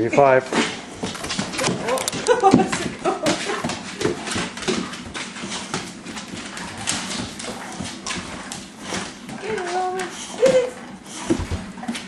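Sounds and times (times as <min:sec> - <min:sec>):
dog claws clicking on hardwood floor: 0:00.6 - 0:10.7.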